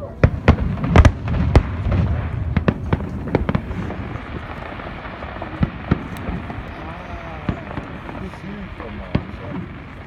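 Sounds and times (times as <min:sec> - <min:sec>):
continuous low rumble: 0:00.0 - 0:10.0
fireworks bursting with sharp bangs: 0:00.0 - 0:10.0.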